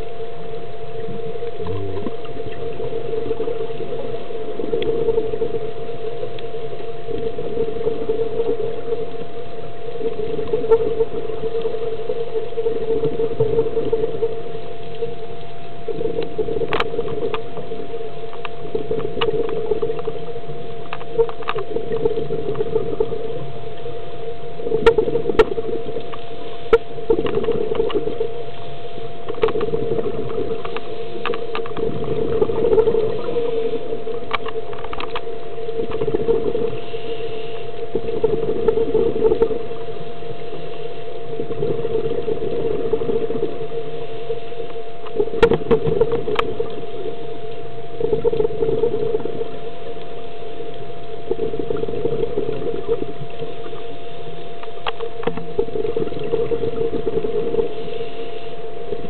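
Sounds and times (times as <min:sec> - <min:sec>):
thin hum: 0:00.0 - 0:59.0
underwater drone: 0:00.0 - 0:59.0.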